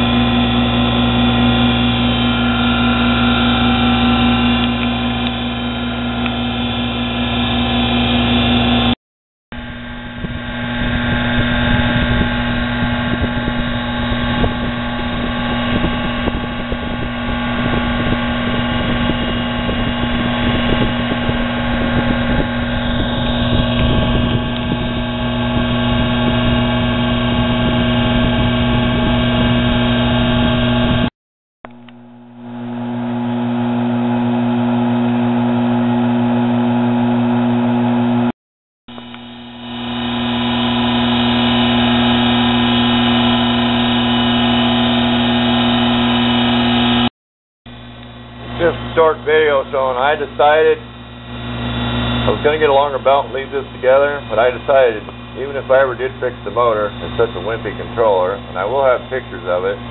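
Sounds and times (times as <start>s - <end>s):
electric motor whining: 0.0s - 9.0s, 9.6s - 31.1s, 38.9s - 47.1s, 47.7s - 59.9s.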